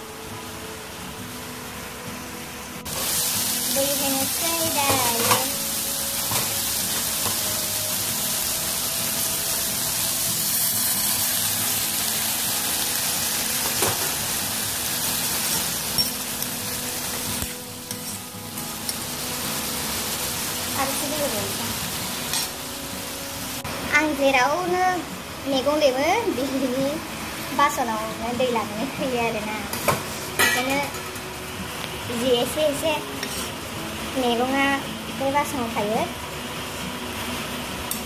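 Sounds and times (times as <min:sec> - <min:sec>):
food sizzling and bubbling: 0:00.0 - 0:38.0
water hissing in hot wok: 0:00.4 - 0:38.0.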